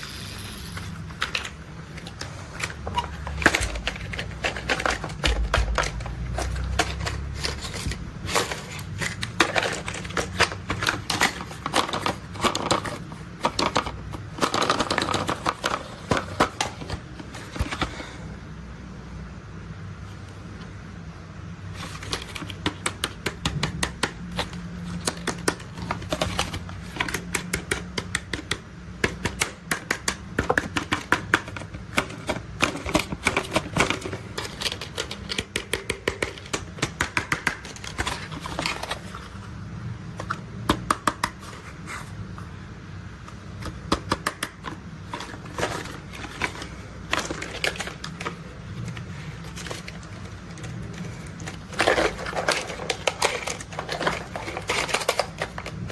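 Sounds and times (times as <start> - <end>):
plastic toys clicking: 0.0 - 17.9, 21.8 - 39.2, 43.6 - 55.9.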